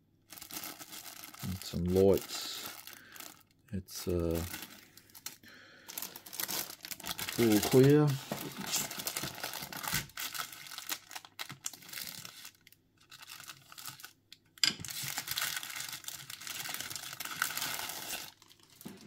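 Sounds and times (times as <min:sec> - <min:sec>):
plastic bag crinkling: 0:00.3 - 0:14.2, 0:14.8 - 0:19.0
sharp plastic crackle: 0:00.3 - 0:19.0.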